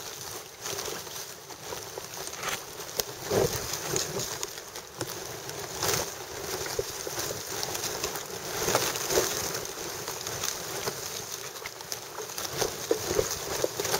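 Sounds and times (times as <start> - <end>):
wind: 0.0 - 13.9.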